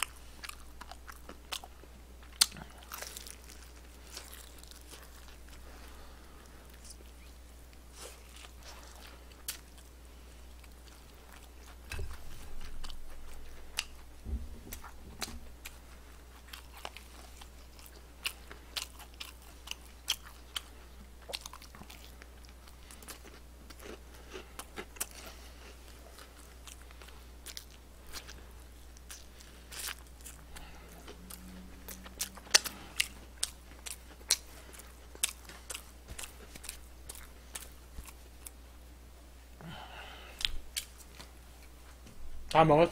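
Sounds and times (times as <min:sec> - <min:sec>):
chewing crunchy fried chicken: 0:00.0 - 0:38.6.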